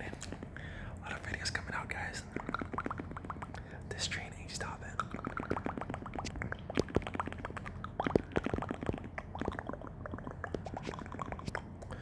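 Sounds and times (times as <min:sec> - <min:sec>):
lip smacks: 0:00.0 - 0:12.0
tongue clicks: 0:01.3 - 0:12.0.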